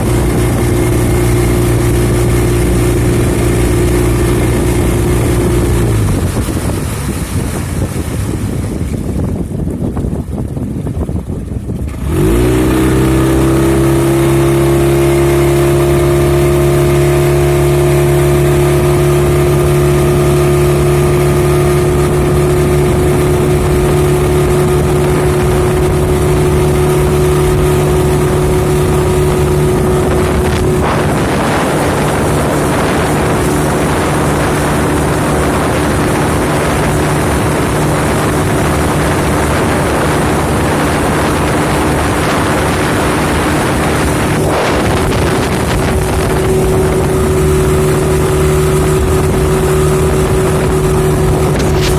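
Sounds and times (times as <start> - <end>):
engine running: 0.0 - 51.9.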